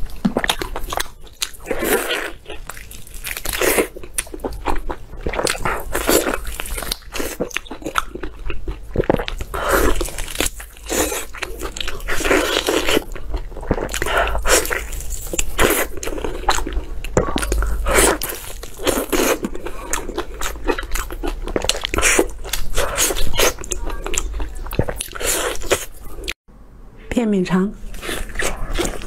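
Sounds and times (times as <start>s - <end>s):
chewing: 0.0s - 26.4s, 27.9s - 29.0s.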